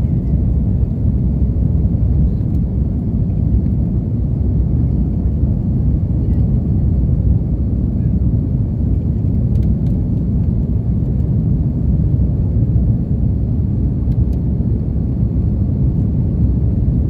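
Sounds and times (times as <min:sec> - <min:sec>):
airplane cabin roar in flight: 0:00.0 - 0:17.0.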